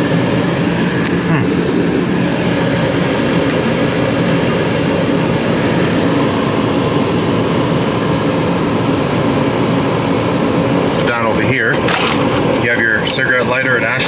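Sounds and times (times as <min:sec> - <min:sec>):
car climate-control fan running: 0:00.0 - 0:14.0.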